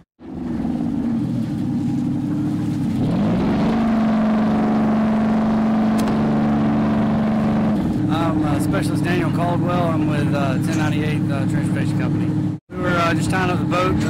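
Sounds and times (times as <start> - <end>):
diesel engines running: 0.0 - 14.0.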